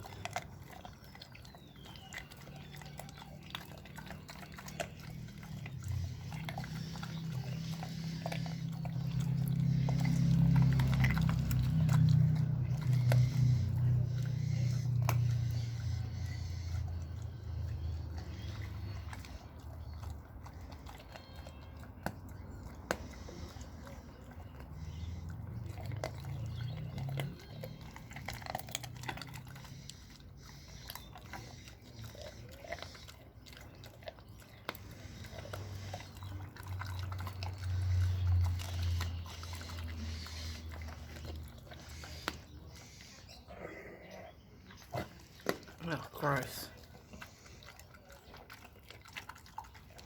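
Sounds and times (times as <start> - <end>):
dog chewing and crunching meat: 0.0 - 50.0.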